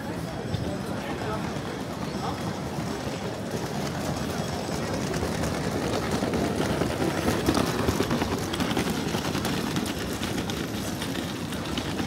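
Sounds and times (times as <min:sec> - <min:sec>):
passers-by: 0:00.0 - 0:12.0
traffic hubbub: 0:00.0 - 0:12.0.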